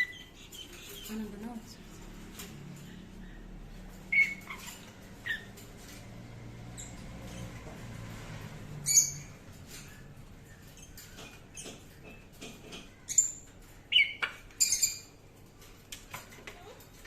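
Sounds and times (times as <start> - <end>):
parrot chicks squeaking: 0.0 - 15.7.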